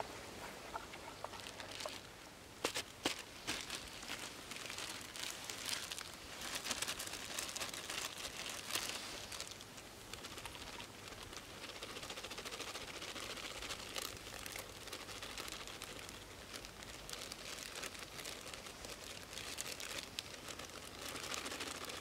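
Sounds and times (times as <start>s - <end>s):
plastic bag crinkling: 1.2s - 22.0s.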